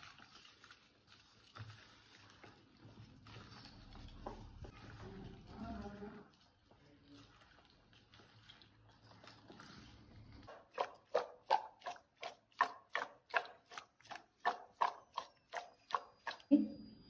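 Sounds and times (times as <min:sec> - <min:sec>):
wet squelching of mixed chicken: 0:00.0 - 0:16.5.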